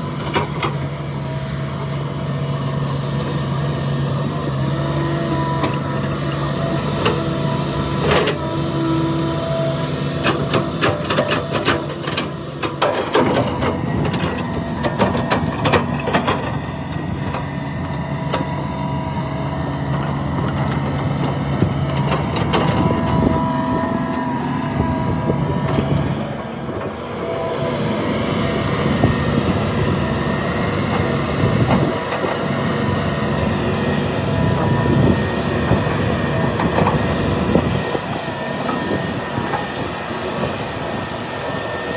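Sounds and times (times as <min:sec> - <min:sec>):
diesel engine drone: 0:00.0 - 0:41.9.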